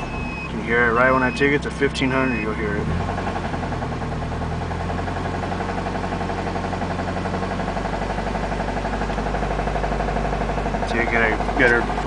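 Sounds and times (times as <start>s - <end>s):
car engine running: 0.0s - 12.0s
rhythmic engine knock: 0.0s - 12.0s.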